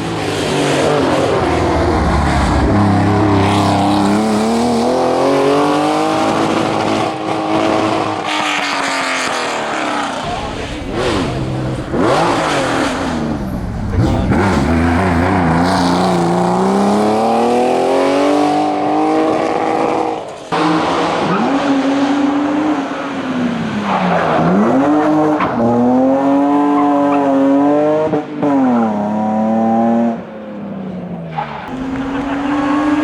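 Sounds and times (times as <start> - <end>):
race car engine accelerating: 0.0 - 33.0.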